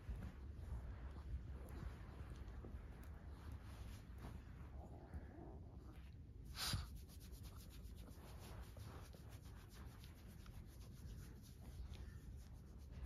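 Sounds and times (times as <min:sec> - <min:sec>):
dog rustling on carpet: 0:00.0 - 0:04.9, 0:05.9 - 0:13.0.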